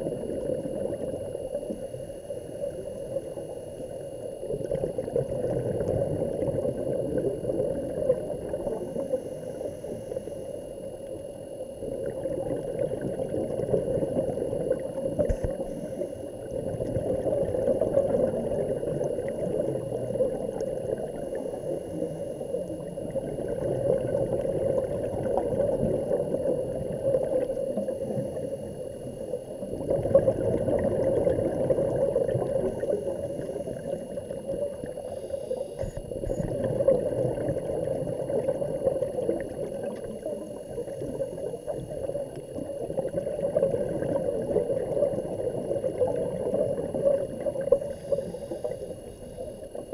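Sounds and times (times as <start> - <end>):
muffled underwater water noise: 0.0 - 49.9.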